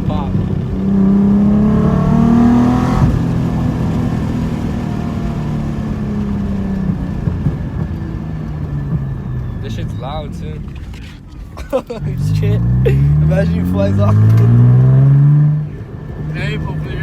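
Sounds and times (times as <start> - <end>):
car exhaust accelerating: 0.0 - 17.0
exhaust crack: 0.0 - 17.0.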